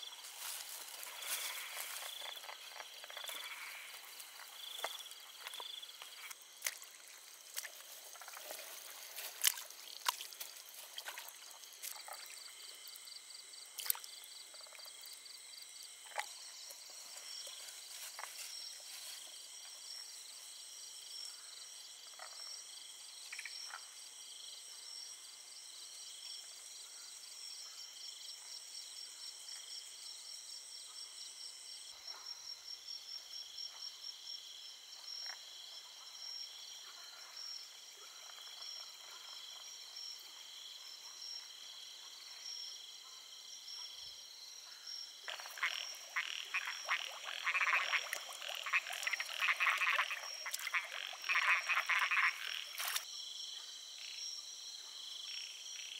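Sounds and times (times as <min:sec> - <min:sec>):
insects trilling: 0:00.0 - 0:25.0, 0:34.0 - 0:55.9
frogs croaking: 0:00.0 - 0:29.9, 0:30.6 - 0:55.9.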